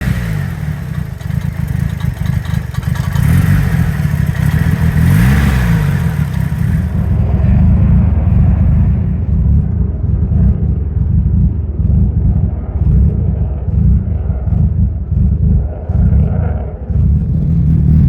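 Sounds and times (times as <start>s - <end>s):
car engine idling roughly: 0.0s - 18.0s
engine revving: 0.0s - 18.0s.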